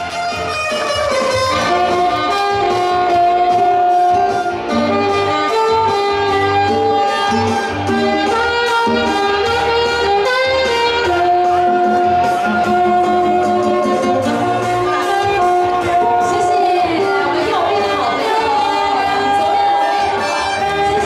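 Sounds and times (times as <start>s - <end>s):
backing track with beat and bass: 0.0s - 21.0s
saxophone melody: 0.0s - 21.0s.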